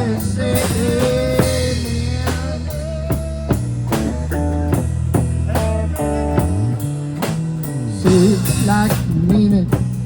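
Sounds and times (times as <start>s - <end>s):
blues-rock band playing: 0.0s - 10.0s.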